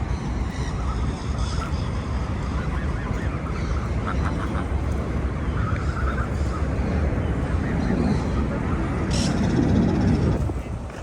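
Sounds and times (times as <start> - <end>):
geese honking: 0.0 - 9.6
low steady rumble: 0.0 - 11.0.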